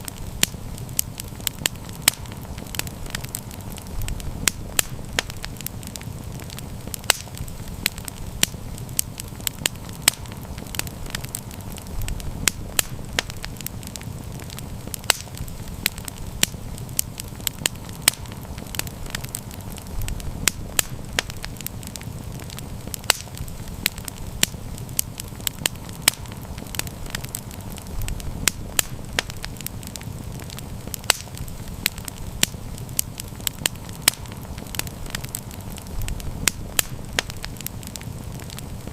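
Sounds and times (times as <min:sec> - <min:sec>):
low rumble of flames: 0:00.0 - 0:38.9
wood crackling and popping: 0:00.0 - 0:38.9.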